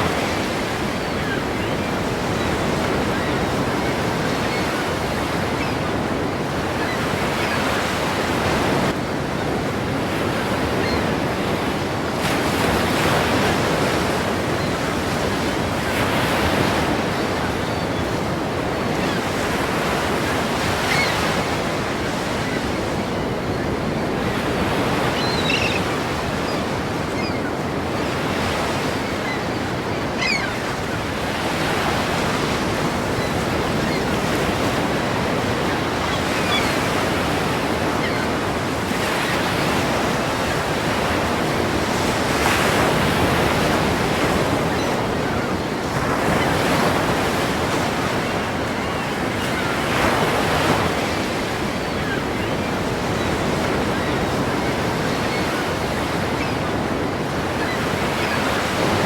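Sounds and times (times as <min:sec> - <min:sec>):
ocean waves crashing: 0:00.0 - 0:59.0.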